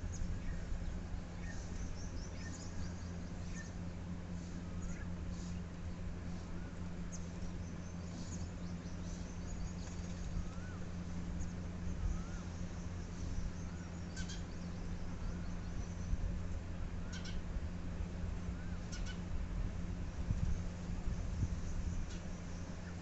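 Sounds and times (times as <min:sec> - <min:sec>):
sparrows chirping: 0:00.0 - 0:17.5, 0:18.1 - 0:23.0
steady low hum: 0:00.0 - 0:23.0.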